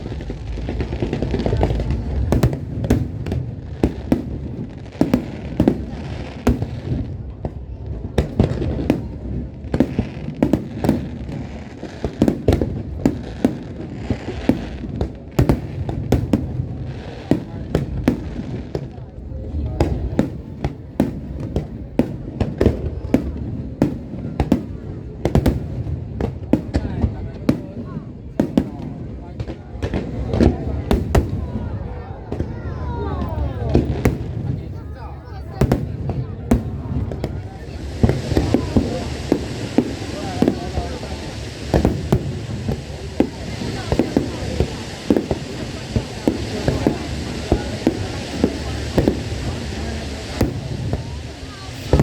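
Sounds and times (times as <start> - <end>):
fireworks bangs: 0.0 - 52.0.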